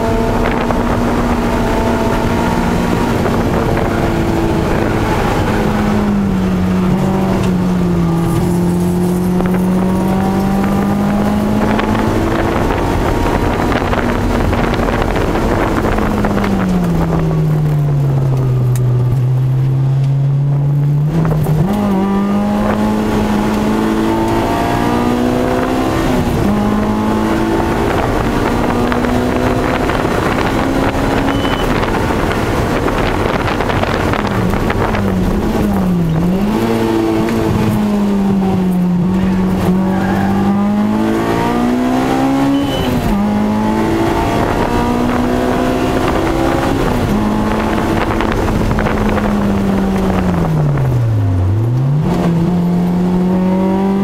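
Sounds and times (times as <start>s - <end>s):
car engine revving at high revs: 0.0s - 54.0s
wind and road noise: 0.0s - 54.0s.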